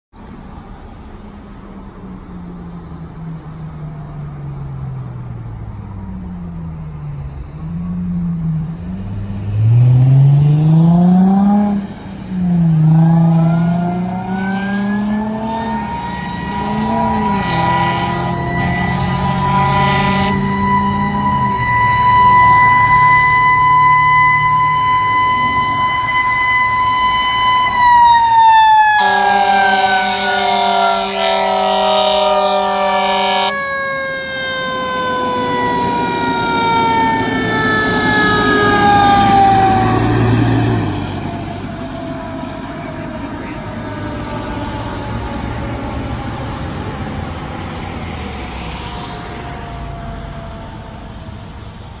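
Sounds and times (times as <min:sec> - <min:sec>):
fire engine siren wailing: 0:02.2 - 0:52.0.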